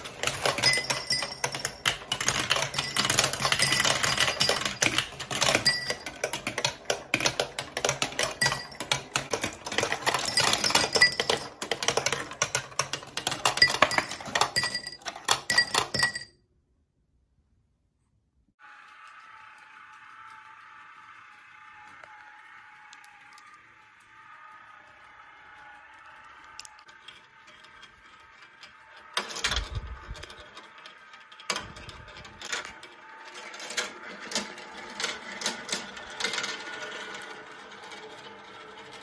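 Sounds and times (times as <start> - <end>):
marbles clicking on plastic run: 0.0 - 16.3, 19.2 - 39.0.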